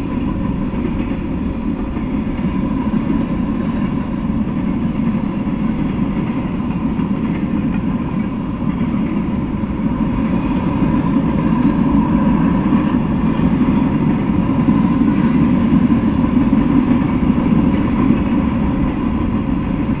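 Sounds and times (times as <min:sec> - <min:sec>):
freight train wheels rolling on rails: 0:00.0 - 0:20.0.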